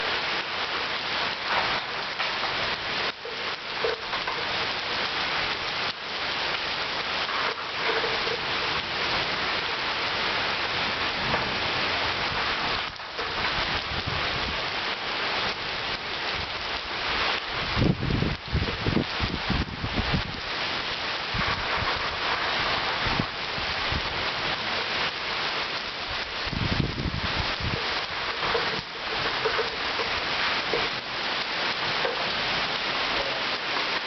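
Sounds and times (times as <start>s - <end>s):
heavy rain pattering: 0.0s - 34.0s.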